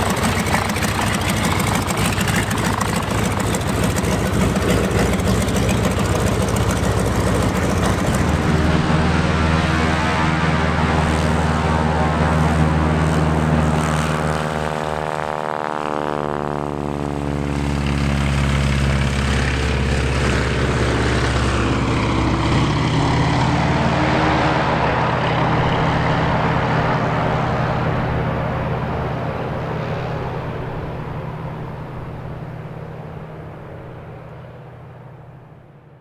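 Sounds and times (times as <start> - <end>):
propeller plane flying past: 0.0 - 36.0.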